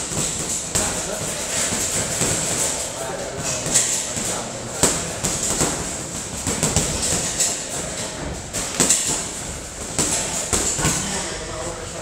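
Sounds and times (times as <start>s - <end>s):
punches thudding on punching bags: 0.0s - 11.4s
steady background noise: 0.0s - 12.0s.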